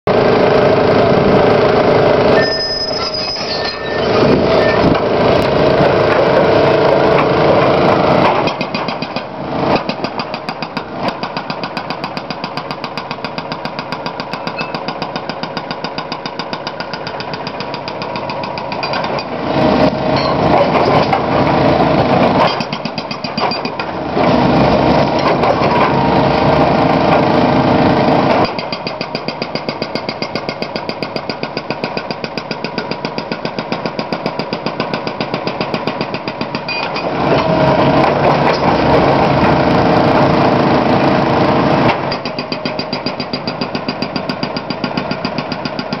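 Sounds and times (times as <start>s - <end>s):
excavator engine: 0.1s - 46.0s
hydraulic breaker hammering rock: 4.1s - 46.0s.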